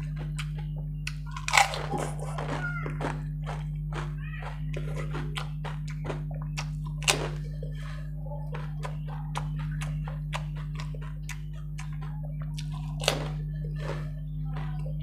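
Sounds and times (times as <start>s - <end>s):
crisp shells cracking and chewed: 0.0s - 14.9s
steady low hum: 0.0s - 15.0s.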